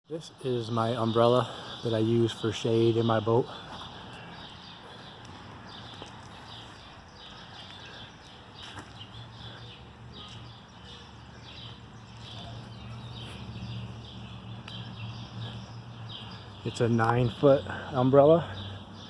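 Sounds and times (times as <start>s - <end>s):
bird chirping: 0.1s - 19.0s.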